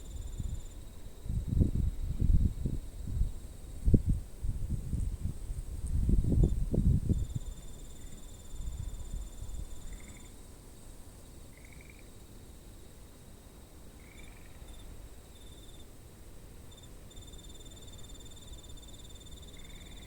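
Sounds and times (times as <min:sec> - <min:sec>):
insects chirping in trills: 0:00.0 - 0:20.0.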